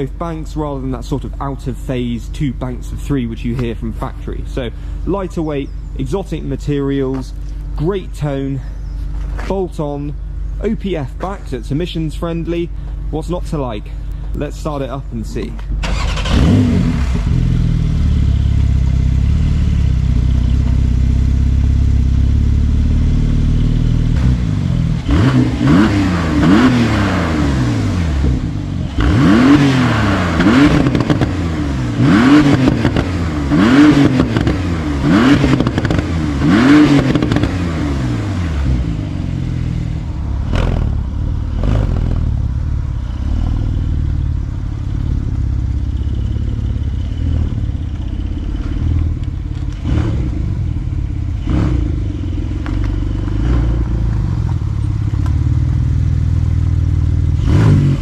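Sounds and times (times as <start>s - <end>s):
car engine idling and revving: 0.0s - 58.0s
exhaust cracks: 0.0s - 58.0s.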